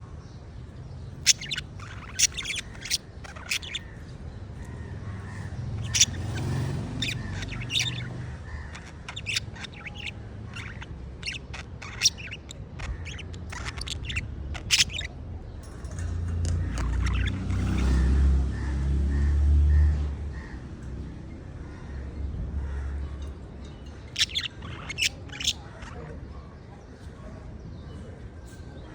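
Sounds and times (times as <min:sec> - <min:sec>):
birds squawking and chirping: 0:00.0 - 0:28.9.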